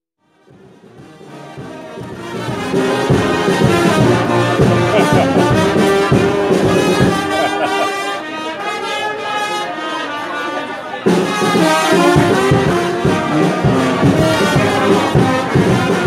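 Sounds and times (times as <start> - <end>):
brass band playing: 0.3 - 16.0.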